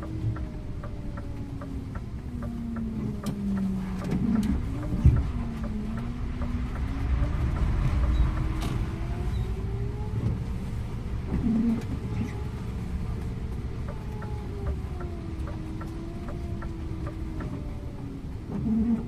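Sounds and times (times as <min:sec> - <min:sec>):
bus engine whine: 0:00.0 - 0:19.0.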